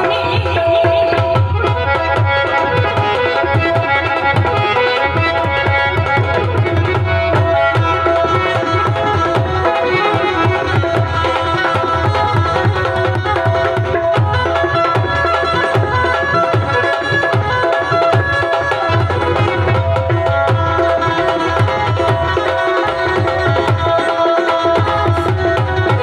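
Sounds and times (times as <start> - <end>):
hand drums fast rhythm: 0.0 - 26.0
sustained instrumental melody: 0.0 - 26.0.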